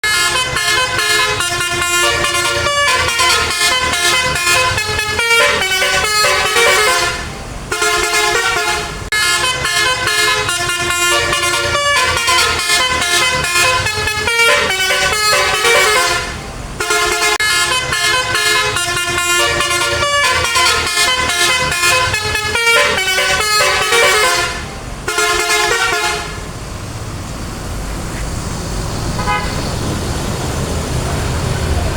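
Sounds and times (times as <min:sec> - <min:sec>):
musical bus horn melody: 0:00.0 - 0:26.5, 0:29.2 - 0:29.6
traffic noise: 0:00.0 - 0:31.9.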